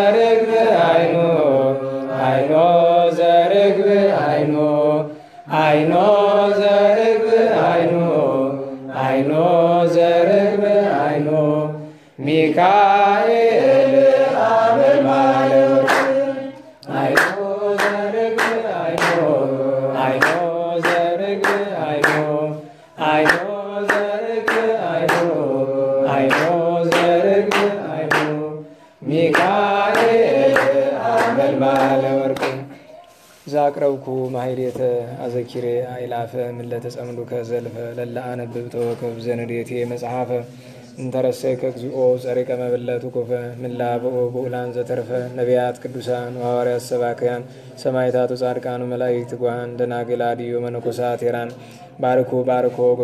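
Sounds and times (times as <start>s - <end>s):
man chanting a hymn: 0.0s - 53.0s.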